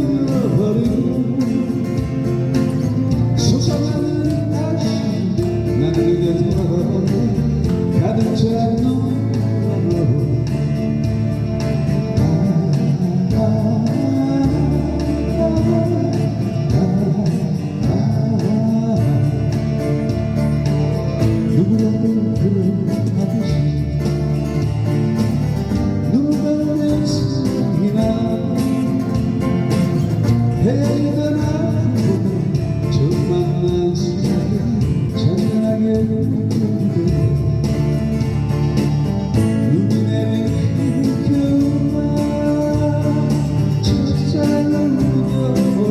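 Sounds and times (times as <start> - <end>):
band playing pop ballad: 0.0 - 45.9
guitar: 0.0 - 45.9.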